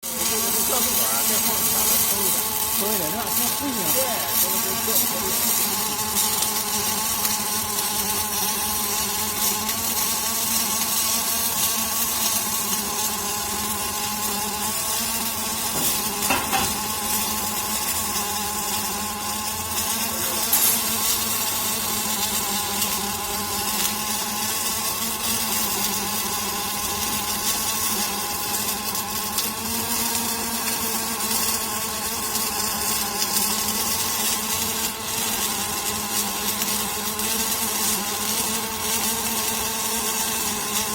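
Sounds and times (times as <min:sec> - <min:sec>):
electrical buzz: 0:00.0 - 0:40.9.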